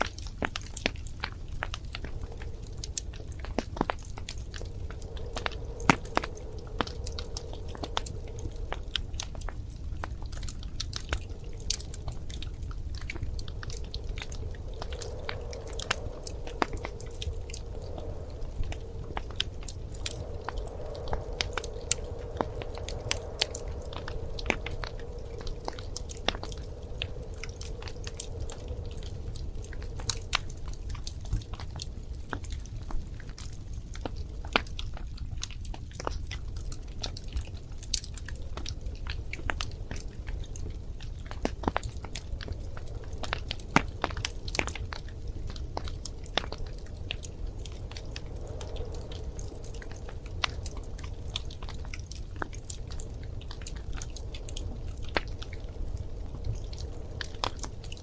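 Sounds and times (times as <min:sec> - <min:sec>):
low steady rumble: 0:00.0 - 0:58.0
wood fire crackling: 0:00.0 - 0:58.0.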